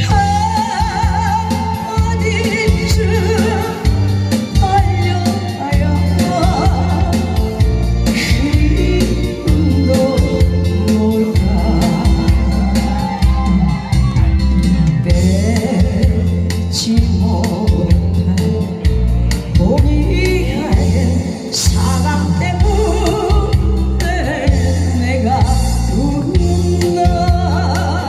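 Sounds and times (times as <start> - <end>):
music with heavy bass: 0.0 - 28.0
person singing: 0.0 - 28.0.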